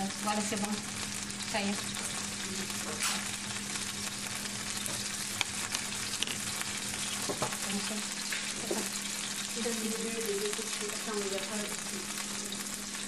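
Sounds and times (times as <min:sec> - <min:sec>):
shrimp sizzling in a frying pan: 0:00.0 - 0:13.0.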